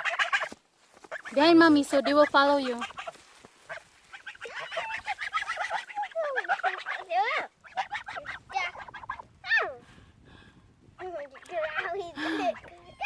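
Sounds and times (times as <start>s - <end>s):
young geese peeping: 0.0s - 9.8s, 11.0s - 13.0s.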